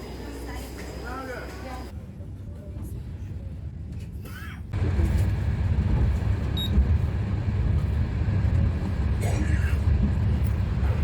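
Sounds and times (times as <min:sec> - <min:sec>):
train rumbling in motion: 0:00.0 - 0:11.0.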